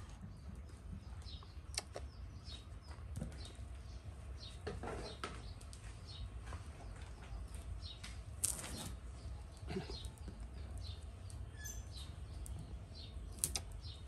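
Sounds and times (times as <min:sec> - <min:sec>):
bird chirping: 0:00.2 - 0:14.0.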